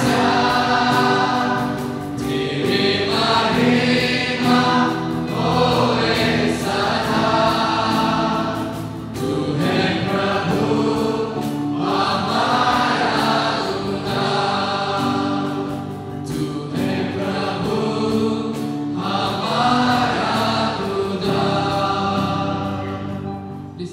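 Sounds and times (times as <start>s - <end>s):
group singing worship song: 0.0s - 23.6s
acoustic guitar: 0.0s - 23.9s.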